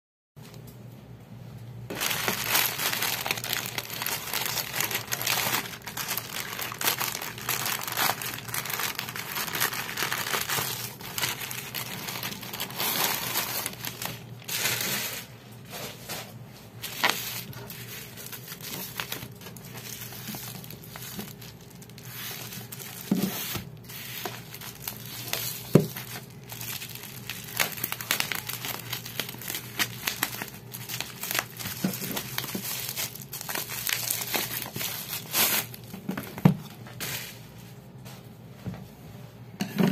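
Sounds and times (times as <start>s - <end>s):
plastic mailer crinkling: 1.9s - 15.9s, 16.8s - 36.4s
bubble wrap crinkling: 1.9s - 36.4s.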